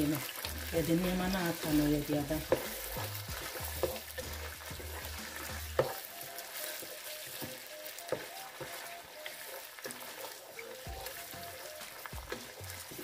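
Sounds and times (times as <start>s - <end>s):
onion sizzling in a pot: 0.0s - 13.0s
wooden spatula scraping pot: 0.1s - 13.0s.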